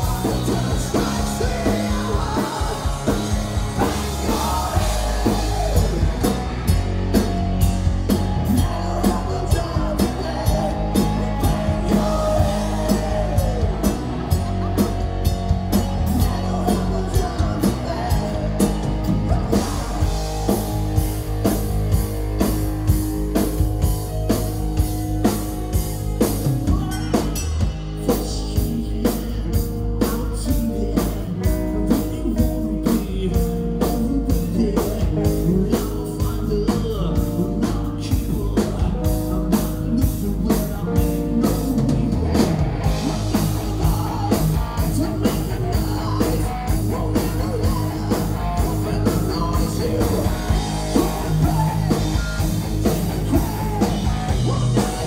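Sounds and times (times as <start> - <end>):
man singing lead vocals: 0.0 - 22.0, 24.8 - 55.0
bass guitar: 0.0 - 55.0
distorted electric guitars: 0.0 - 55.0
drum kit beat: 0.0 - 55.0.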